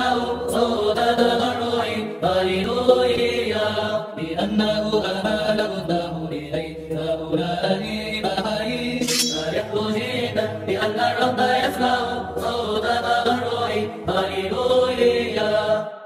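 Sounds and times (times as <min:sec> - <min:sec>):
sustained sung voices: 0:00.0 - 0:16.0.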